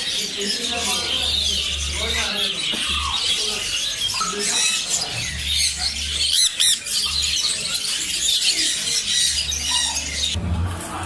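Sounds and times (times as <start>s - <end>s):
birds chirping and chattering: 0.0s - 10.4s
bird squawks: 0.1s - 10.4s.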